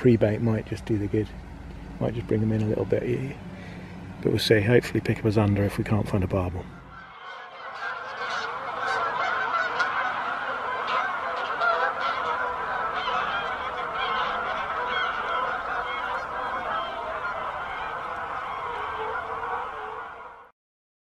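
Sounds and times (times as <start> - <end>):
geese honking: 0.2 - 20.5.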